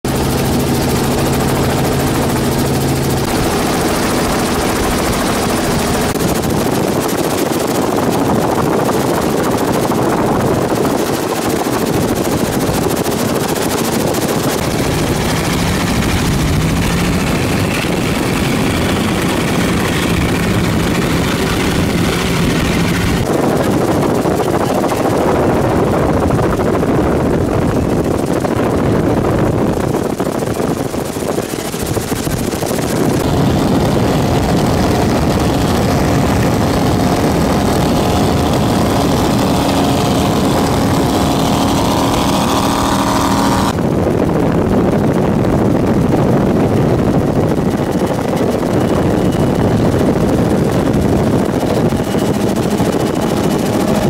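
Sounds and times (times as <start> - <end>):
loud engine noise with rushing hiss: 0.1 - 54.0.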